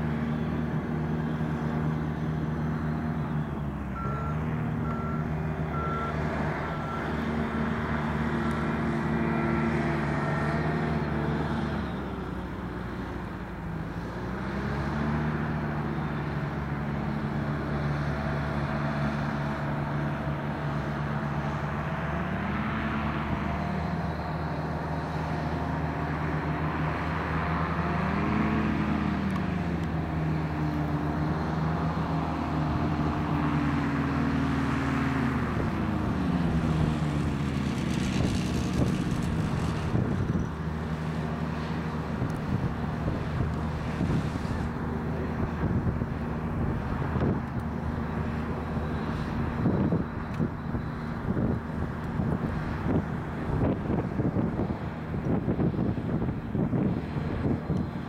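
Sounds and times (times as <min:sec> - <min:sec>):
powered parachute engine and propeller: 0:00.0 - 0:58.0.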